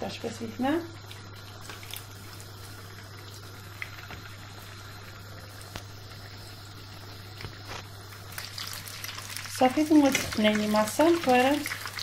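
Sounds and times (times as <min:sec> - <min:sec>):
patties sizzling in hot oil: 0:00.0 - 0:12.0
sharp oil crackles: 0:01.0 - 0:06.2, 0:07.3 - 0:12.0.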